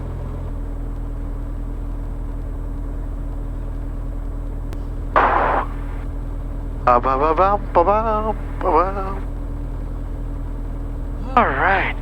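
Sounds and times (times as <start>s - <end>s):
airplane piston engine droning: 0.0s - 12.0s.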